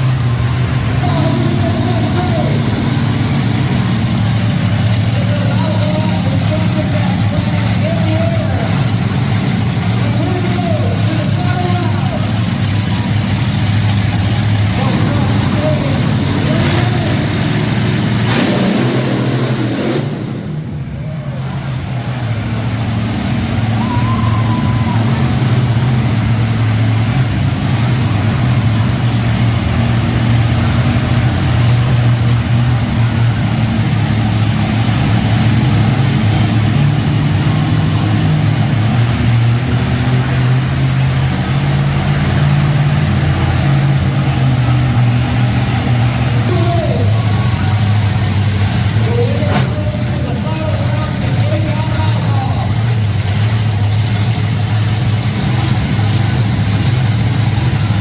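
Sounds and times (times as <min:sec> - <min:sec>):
truck engines revving loudly: 0:00.0 - 0:58.0.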